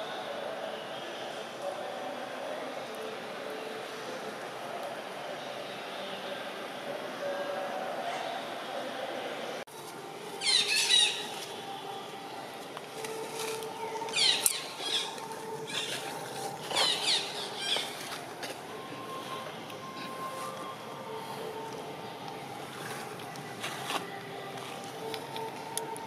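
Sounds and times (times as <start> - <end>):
open-air background: 0.0 - 26.0.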